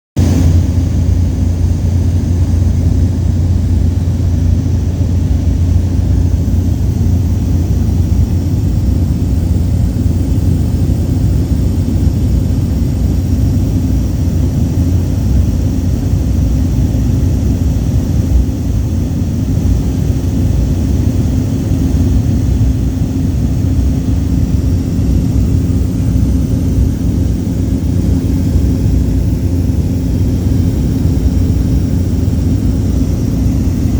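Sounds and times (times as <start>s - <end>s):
light aircraft engine drone: 0.2s - 33.9s.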